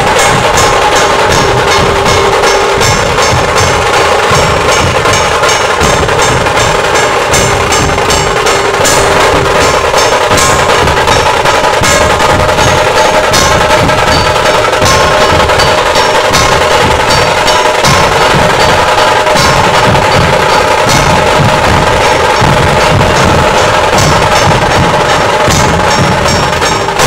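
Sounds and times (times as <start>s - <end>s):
barrel drums beaten with sticks: 0.0s - 27.0s
tasha drums: 0.0s - 27.0s.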